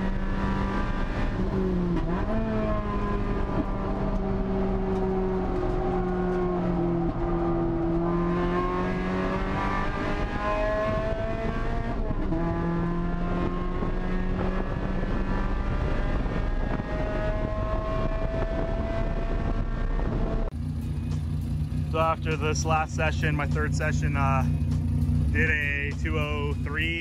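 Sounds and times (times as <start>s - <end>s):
car engine accelerating: 0.0s - 27.0s
wind and road noise: 0.0s - 27.0s.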